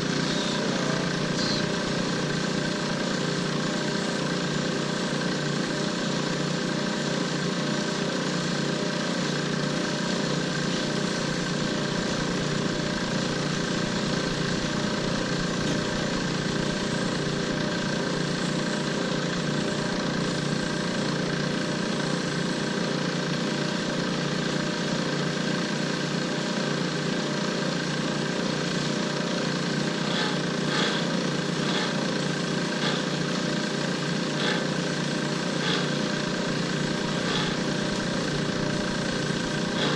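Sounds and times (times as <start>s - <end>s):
lathe motor hum: 0.0s - 39.9s.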